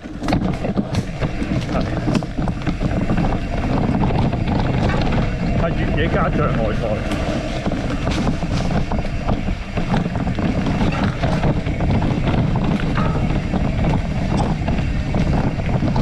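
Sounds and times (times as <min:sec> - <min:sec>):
bicycle knocks and rattles: 0:00.0 - 0:16.0
wind rumbling on microphone: 0:00.0 - 0:16.0.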